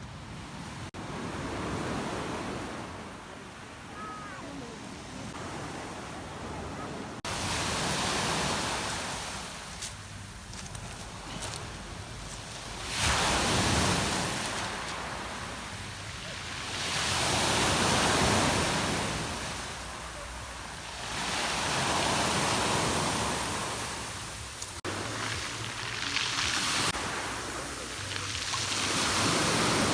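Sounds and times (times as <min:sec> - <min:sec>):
sea waves washing ashore: 0:00.0 - 0:29.9.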